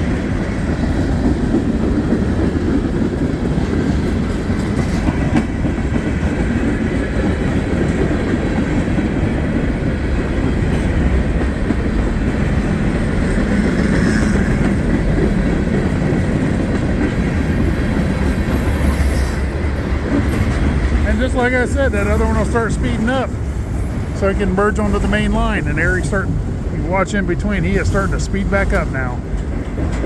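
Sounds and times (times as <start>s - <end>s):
freight train wheels on track: 0.0s - 30.0s.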